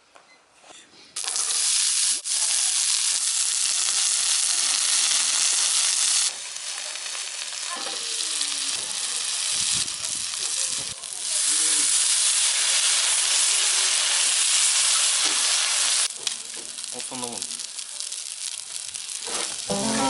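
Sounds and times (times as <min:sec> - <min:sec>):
food sizzling in a pot: 0:01.2 - 0:20.0.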